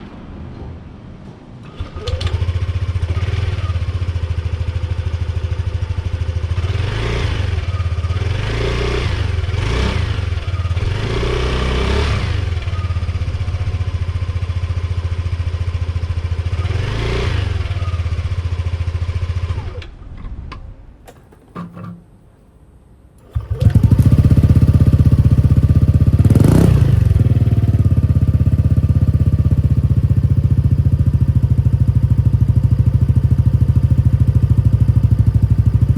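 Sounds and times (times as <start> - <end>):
scooter engine idling and revving: 1.8 - 19.8, 23.2 - 35.9.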